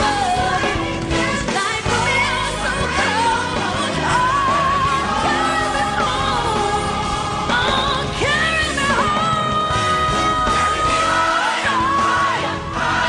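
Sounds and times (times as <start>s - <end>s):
live band playing a ballad: 0.0s - 13.0s.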